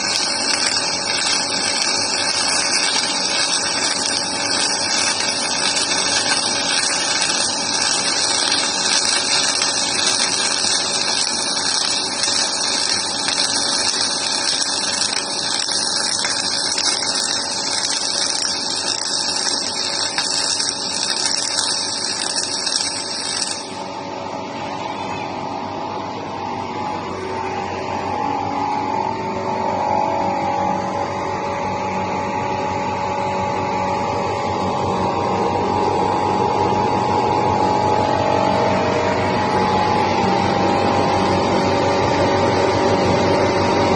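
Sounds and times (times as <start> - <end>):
dull machine hum: 0.0 - 43.9
steady machine noise with hiss: 0.0 - 43.9.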